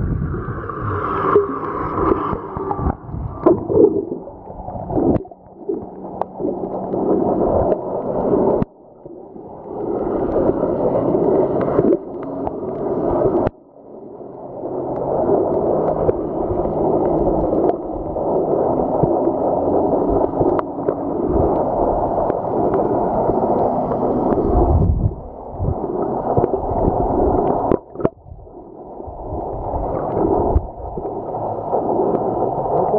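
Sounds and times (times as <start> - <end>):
underwater sloshing and bubbling: 0.0 - 32.9.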